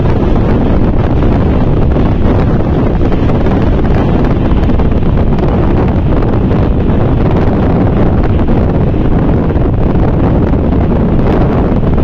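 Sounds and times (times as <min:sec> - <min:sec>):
low rumble of moving train: 0:00.0 - 0:12.0
wind buffeting microphone: 0:00.0 - 0:12.0.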